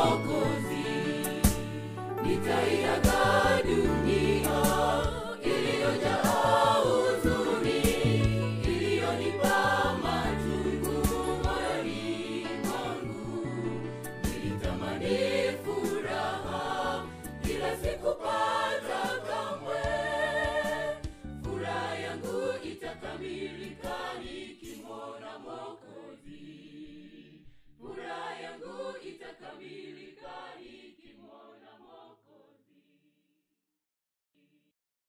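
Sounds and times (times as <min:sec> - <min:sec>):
gospel choir singing: 0:00.0 - 0:32.8.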